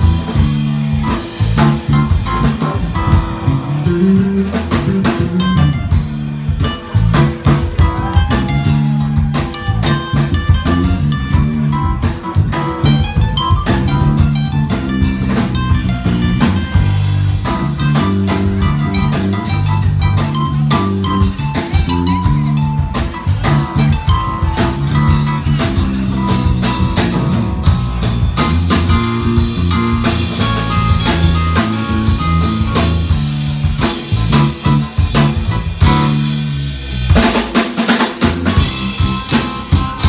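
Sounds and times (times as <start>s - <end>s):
drum kit: 0.0s - 40.0s
electric bass line: 0.0s - 40.0s
keyboard: 0.0s - 40.0s.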